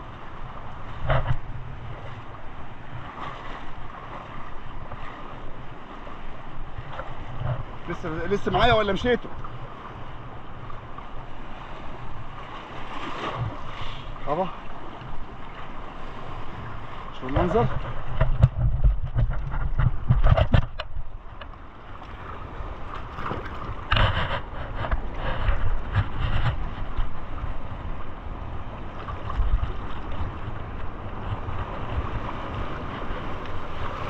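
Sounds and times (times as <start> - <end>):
sea waves splashing against rocks: 0.0 - 34.0
wind buffeting microphone: 0.0 - 34.0.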